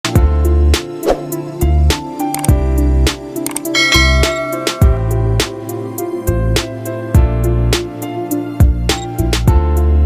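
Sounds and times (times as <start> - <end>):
music with steady beat and bass: 1.6 - 10.0.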